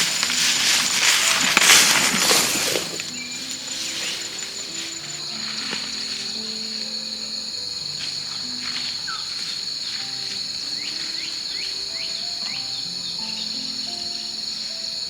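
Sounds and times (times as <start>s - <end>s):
insects droning: 0.0s - 15.0s
soft slow background music: 0.0s - 15.0s.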